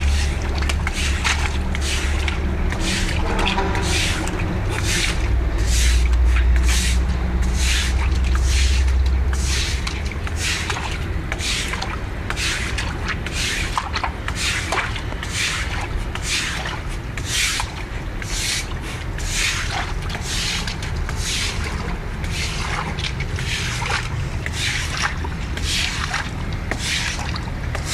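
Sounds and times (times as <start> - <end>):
broom sweeping water on floor: 0.0 - 27.9.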